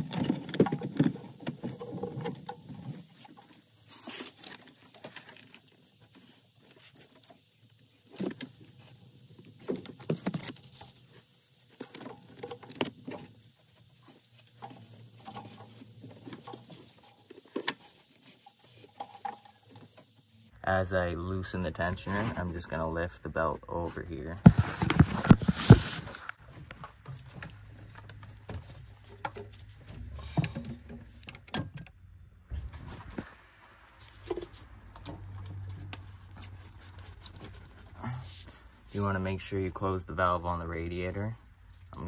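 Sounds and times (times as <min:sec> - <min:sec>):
rubber belt rustling and scraping: 0:00.0 - 0:20.6, 0:24.4 - 0:31.6, 0:32.5 - 0:39.5.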